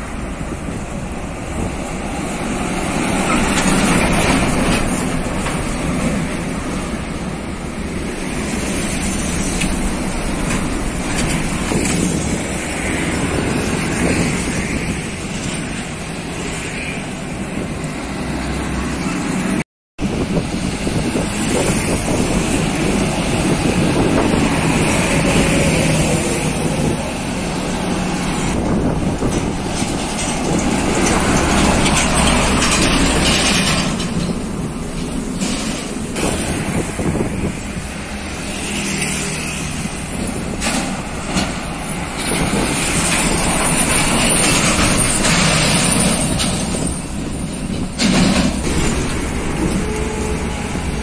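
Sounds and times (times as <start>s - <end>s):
cars passing: 0.0s - 51.0s
trucks passing: 0.0s - 51.0s.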